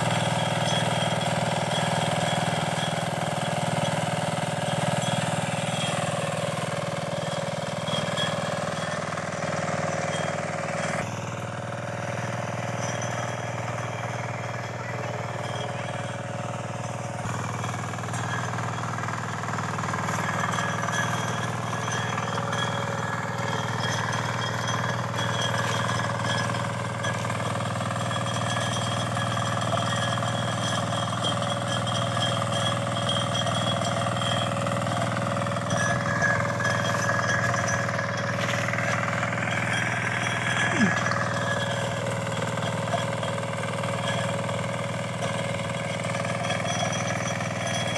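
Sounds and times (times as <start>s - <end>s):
power tiller engine knocking: 0.0s - 47.9s.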